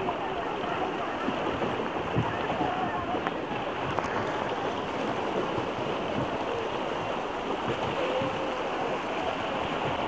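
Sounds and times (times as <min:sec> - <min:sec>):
sea water splashing around boat: 0:00.0 - 0:10.0.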